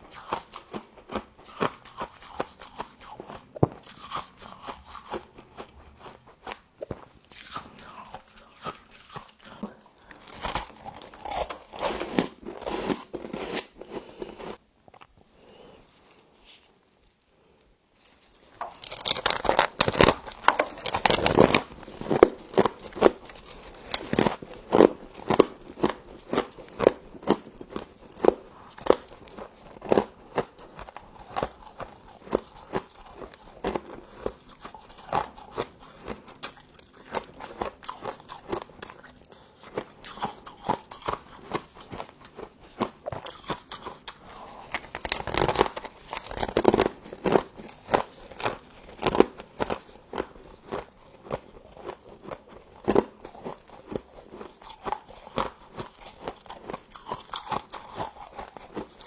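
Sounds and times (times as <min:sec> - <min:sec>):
frost crunching being chewed: 0:00.0 - 0:59.0.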